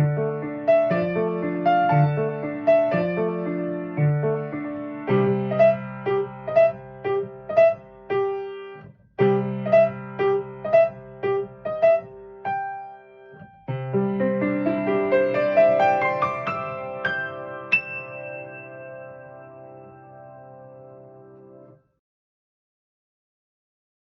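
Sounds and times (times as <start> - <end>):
slow gentle piano piece: 0.0 - 21.8.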